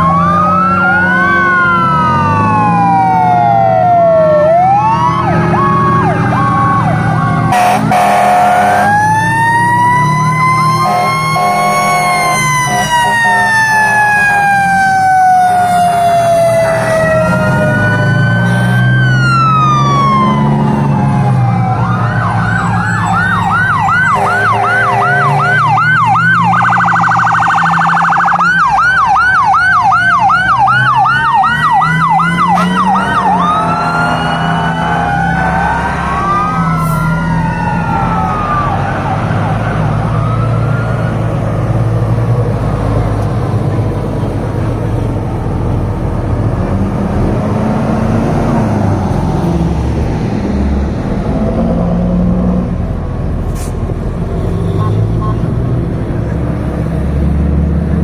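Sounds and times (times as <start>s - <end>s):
fire truck sirens wailing and yelping: 0.0s - 58.0s
road noise: 0.0s - 58.0s
truck engines rumbling: 0.0s - 58.0s.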